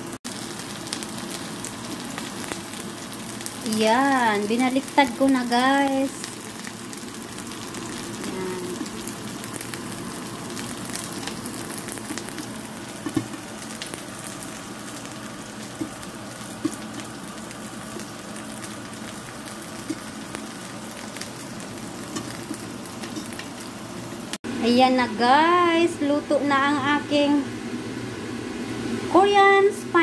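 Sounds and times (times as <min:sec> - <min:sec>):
pancakes sizzling in oil: 0:00.2 - 0:24.4.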